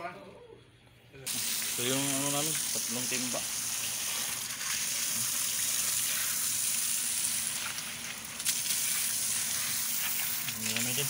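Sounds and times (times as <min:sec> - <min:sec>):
running water hissing: 0:01.3 - 0:11.0.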